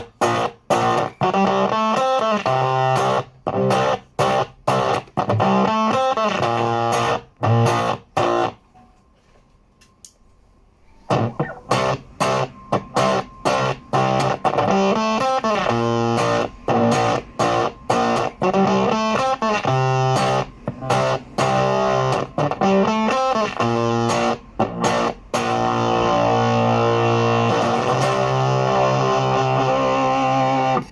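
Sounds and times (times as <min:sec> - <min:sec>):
electric guitar chord stabs: 0:00.0 - 0:08.6, 0:11.1 - 0:30.9.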